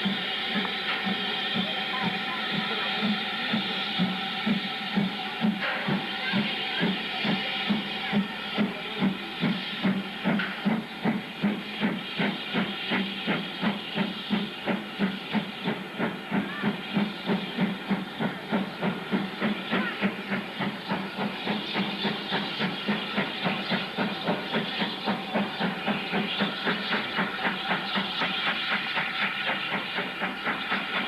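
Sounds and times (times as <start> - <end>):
steam hissing: 0.0 - 31.0
steam locomotive chuffing: 0.0 - 31.0.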